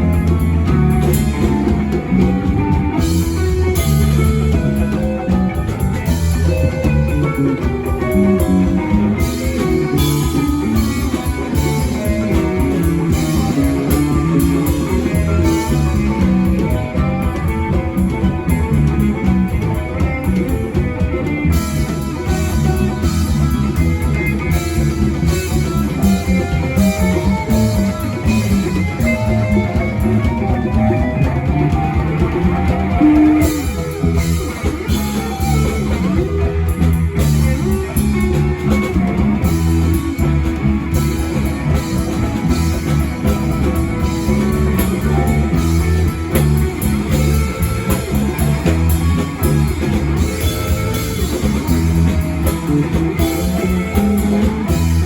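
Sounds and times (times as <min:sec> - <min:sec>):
bass low end: 0:00.0 - 0:55.0
drum kit beat: 0:00.0 - 0:55.0
electric guitar lines: 0:00.0 - 0:55.0.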